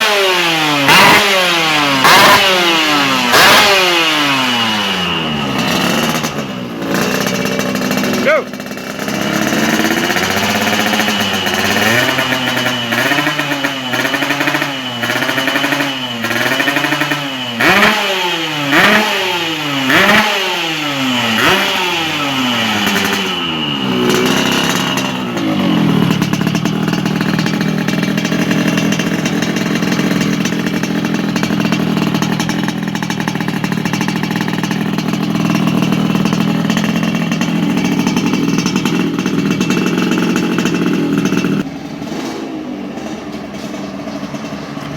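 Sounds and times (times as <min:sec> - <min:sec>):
motorcycle engine idling: 0:00.0 - 0:44.9
motorcycle engine revving: 0:00.0 - 0:44.9.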